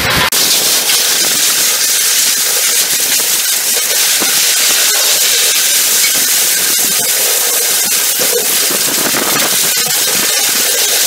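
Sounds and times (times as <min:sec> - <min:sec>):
hammer mill running: 0:00.0 - 0:11.0
sharp clicks and rattles of smashing: 0:00.0 - 0:11.0.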